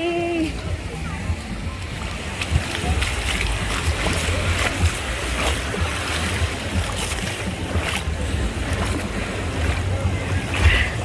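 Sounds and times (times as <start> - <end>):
small waves splashing on shore: 0.0 - 11.0.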